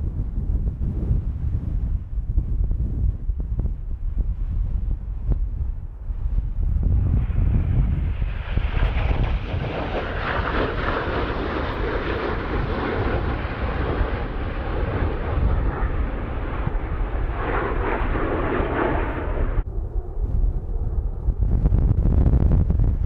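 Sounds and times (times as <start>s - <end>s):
wind rumbling on microphone: 0.0s - 23.0s
jet engine rush: 3.3s - 23.0s.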